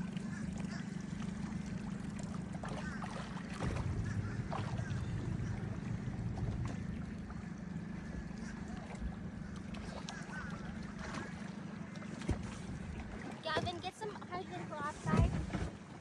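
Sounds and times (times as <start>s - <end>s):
motorboat engine humming: 0.0s - 16.0s.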